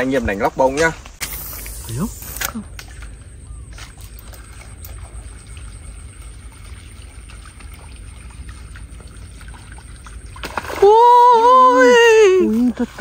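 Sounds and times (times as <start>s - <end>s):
steady low rumble: 0.0s - 10.6s
small splashes and trickling water: 2.6s - 13.0s.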